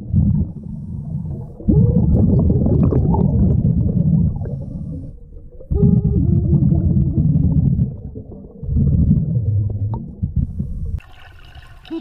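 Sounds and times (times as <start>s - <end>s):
underwater exhaled breath bubbling: 0.0s - 12.0s.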